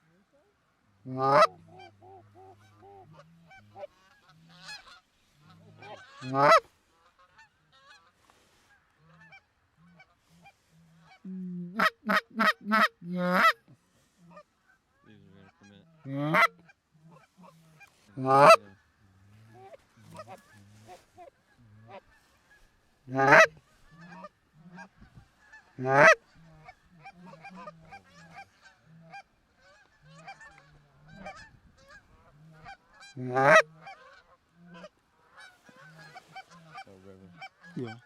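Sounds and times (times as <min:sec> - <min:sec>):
geese honking: 0:00.7 - 0:38.0.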